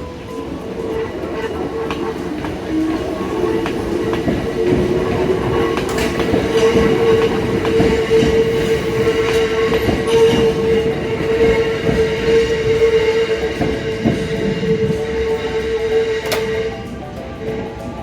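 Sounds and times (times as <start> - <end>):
train rumble: 0.0 - 18.0
train whine: 0.0 - 18.0
wheels clicking over rail joints: 0.0 - 18.0.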